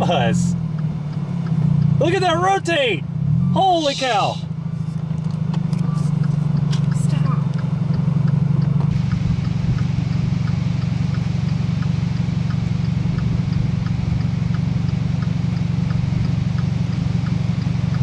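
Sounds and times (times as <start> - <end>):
light regular ticking: 0.0 - 3.3, 4.4 - 18.0
car engine idling: 0.0 - 18.0.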